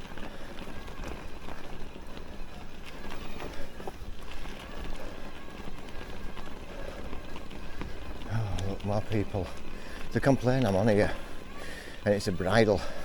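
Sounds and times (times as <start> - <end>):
tyres rolling over stones: 0.0 - 13.0.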